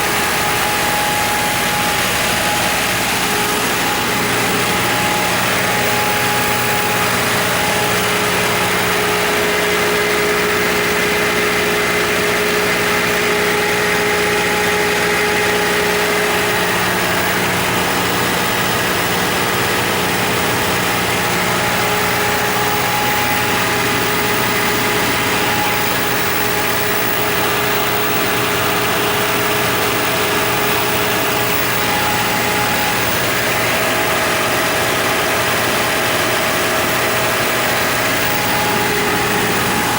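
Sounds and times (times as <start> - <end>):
diesel generator running: 0.0 - 39.9
steady whine: 0.0 - 39.9.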